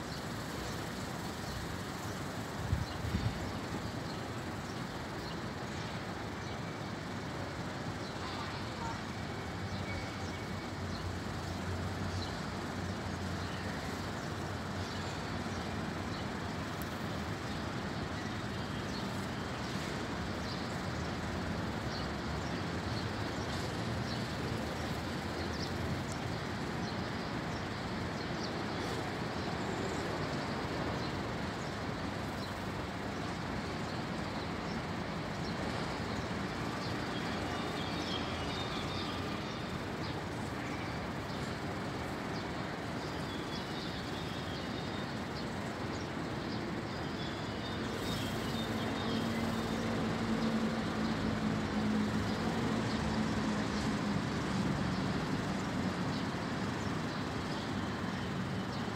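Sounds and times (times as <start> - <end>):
outdoor background noise: 0.0 - 58.9.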